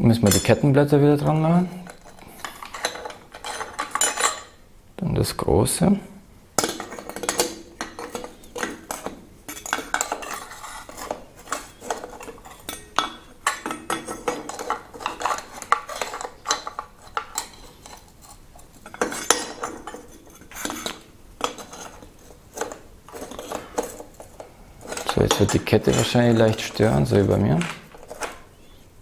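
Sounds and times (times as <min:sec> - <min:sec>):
metal chainrings clinking and scraping: 0:01.3 - 0:04.6, 0:06.8 - 0:28.4.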